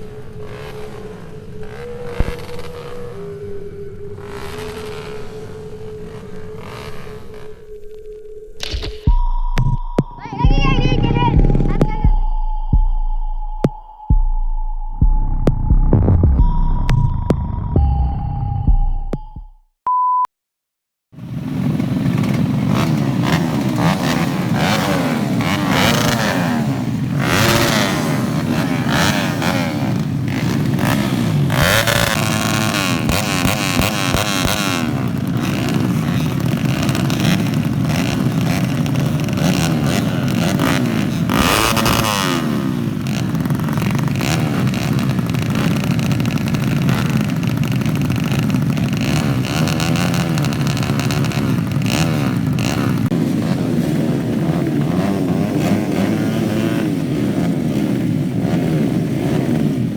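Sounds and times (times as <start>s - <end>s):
racing motorcycle engines revving: 0.0s - 8.9s, 10.2s - 12.1s, 21.2s - 59.9s.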